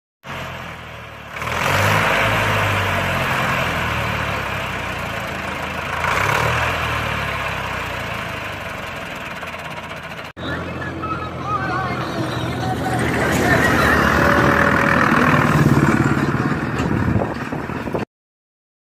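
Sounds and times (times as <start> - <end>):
tractor diesel engine labouring: 0.2 - 18.1.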